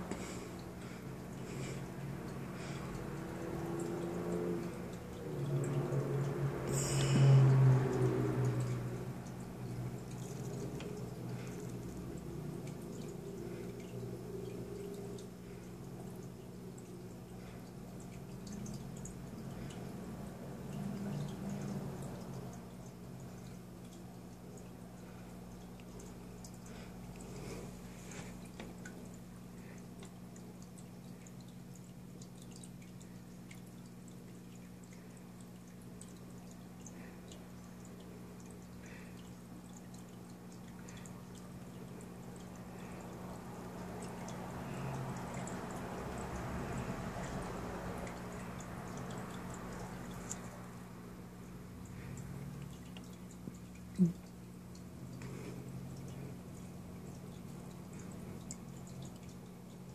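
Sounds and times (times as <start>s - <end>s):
steady low hum: 0.0s - 59.9s
water dripping and trickling: 0.0s - 59.9s.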